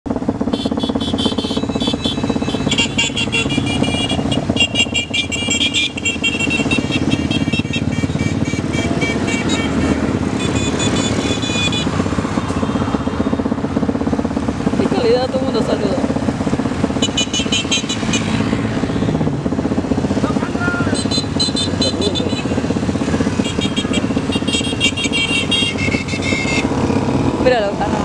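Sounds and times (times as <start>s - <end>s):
motorcycles riding past: 0.1s - 28.0s.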